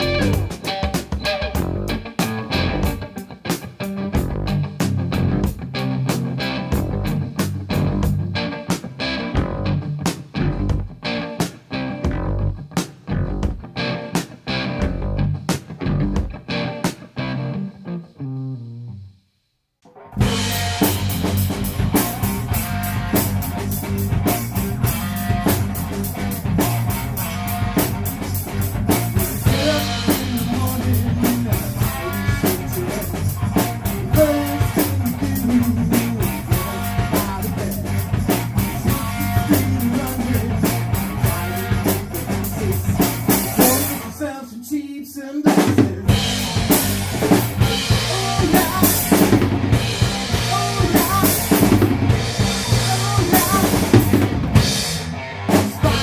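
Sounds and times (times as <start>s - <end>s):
rock drum beat: 0.0s - 17.2s, 20.1s - 44.2s, 45.4s - 56.0s
bass: 0.0s - 19.2s, 20.1s - 44.4s, 45.5s - 56.0s.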